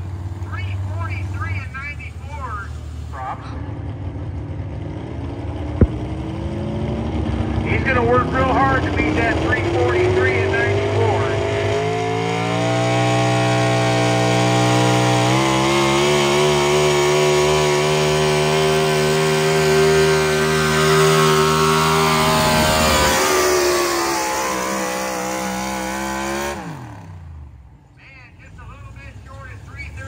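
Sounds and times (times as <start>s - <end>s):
engine revving under full load: 0.0s - 27.7s.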